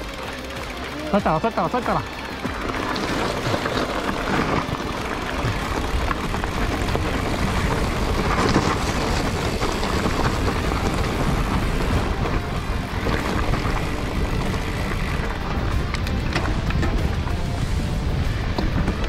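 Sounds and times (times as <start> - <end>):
wind rushing over microphone: 3.0 - 19.0.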